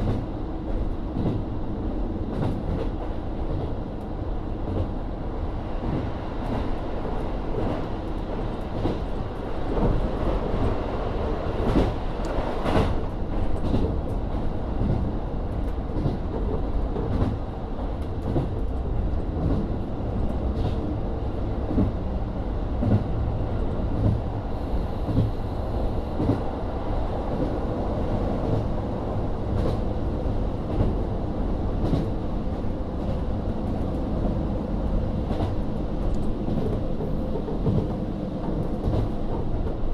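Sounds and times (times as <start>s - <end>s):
diesel railcar engine hum: 0.0s - 39.9s.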